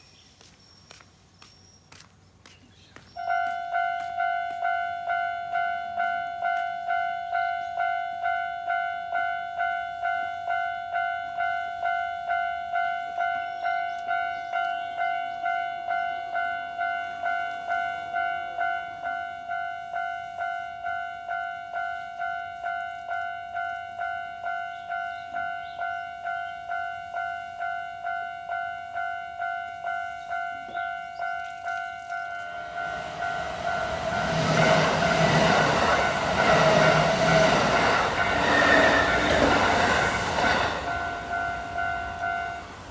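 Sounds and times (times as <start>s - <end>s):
level crossing warning bell: 3.2s - 42.9s.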